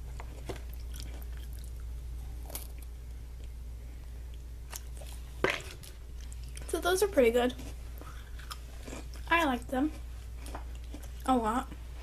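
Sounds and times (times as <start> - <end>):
steady low hum: 0.0 - 12.0
person chewing crunchy biscuits: 0.1 - 3.6, 4.2 - 6.8, 7.5 - 12.0.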